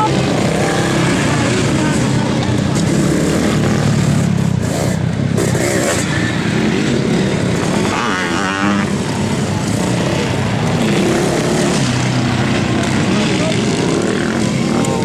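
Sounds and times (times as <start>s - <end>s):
motorcycle engines running under load: 0.0s - 15.0s.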